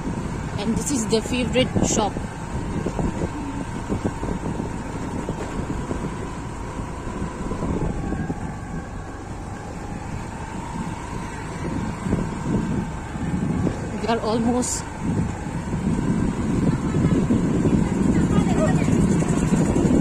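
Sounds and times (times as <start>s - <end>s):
road rumble with jolts: 0.0s - 20.0s
vehicle engine whine: 0.0s - 20.0s
wind on microphone: 0.0s - 20.0s.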